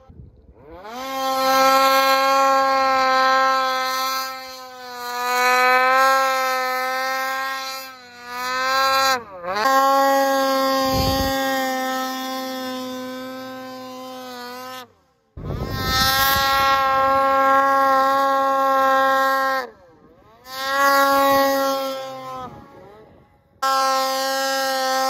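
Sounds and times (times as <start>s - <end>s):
snowmobile engine revving: 0.0s - 25.0s.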